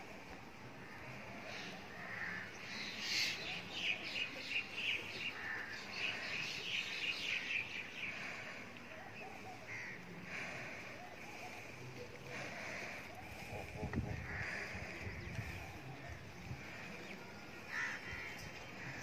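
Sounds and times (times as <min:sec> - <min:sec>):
birds calling: 0:00.8 - 0:19.0.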